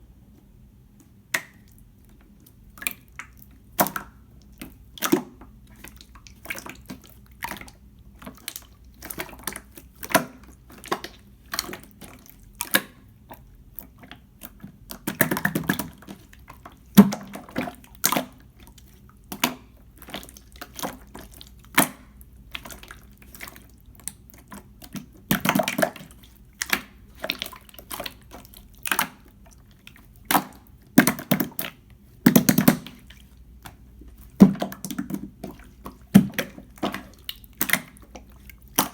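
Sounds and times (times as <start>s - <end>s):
slime squelching: 1.3s - 38.9s.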